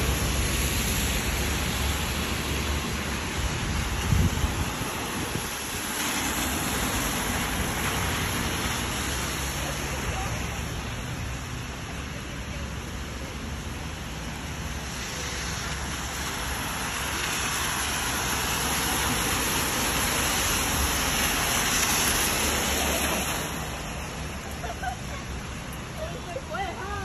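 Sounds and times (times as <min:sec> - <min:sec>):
steady rain: 0:00.0 - 0:27.0
tyres hissing on wet road: 0:00.0 - 0:27.0.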